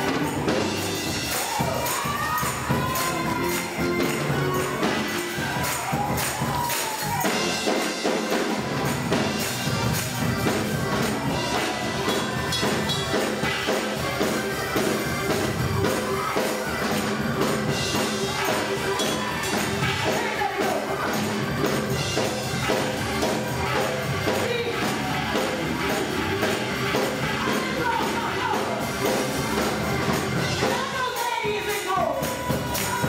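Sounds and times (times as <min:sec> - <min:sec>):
live gospel band music: 0:00.0 - 0:33.0
percussion driving beat: 0:00.0 - 0:33.0.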